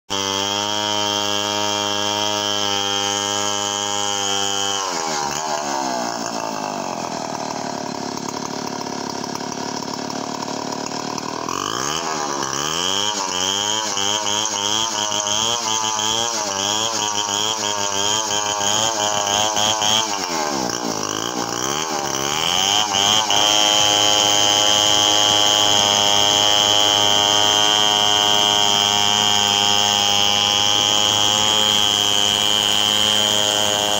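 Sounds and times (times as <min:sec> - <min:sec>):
chainsaw ripping a log: 0:00.1 - 0:33.9.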